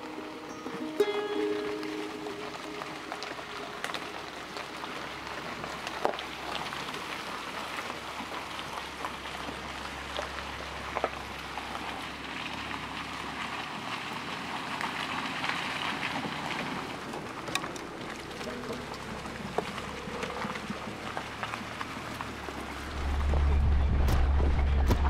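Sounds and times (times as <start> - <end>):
rain on foliage: 0.0 - 25.0.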